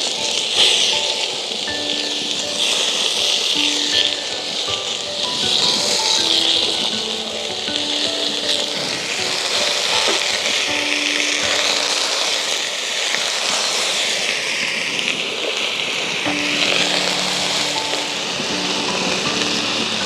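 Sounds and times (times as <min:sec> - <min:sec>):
soft background music: 0:00.0 - 0:14.6, 0:16.1 - 0:20.0
steady hiss: 0:00.0 - 0:20.0.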